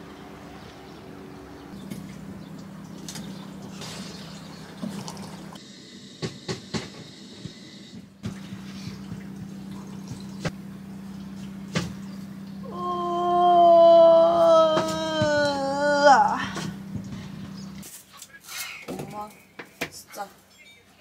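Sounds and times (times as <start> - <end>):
low steady hum: 0.0 - 6.1, 6.7 - 21.0.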